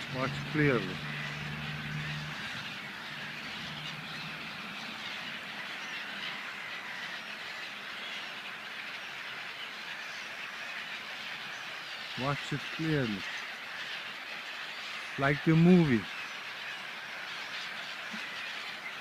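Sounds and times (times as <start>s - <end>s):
flock of birds chattering: 0.0s - 19.0s.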